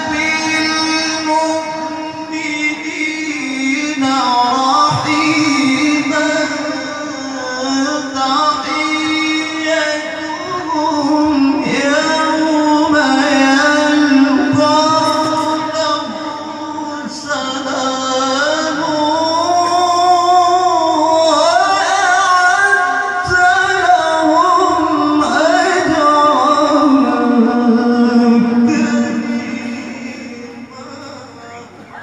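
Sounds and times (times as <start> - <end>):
man chanting into microphone: 0.0 - 32.0.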